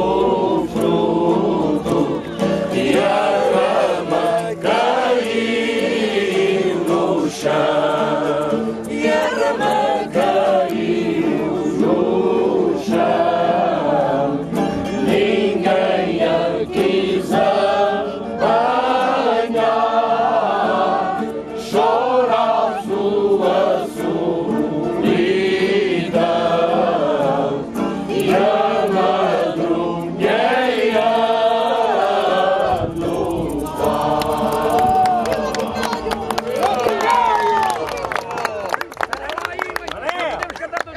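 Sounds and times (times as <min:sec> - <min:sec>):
group of voices singing folk song: 0:00.0 - 0:37.3.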